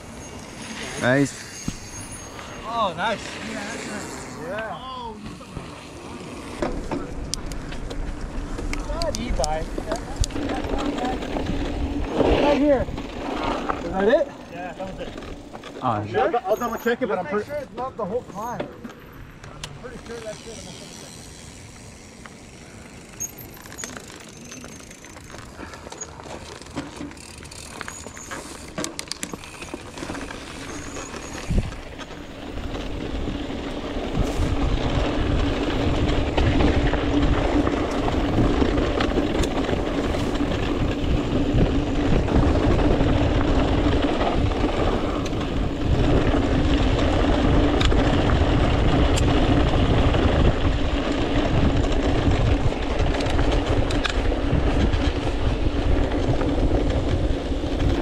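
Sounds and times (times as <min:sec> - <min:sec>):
bicycle clicks and rattles: 0:00.0 - 0:58.0
wind and tyre noise: 0:00.0 - 0:58.0.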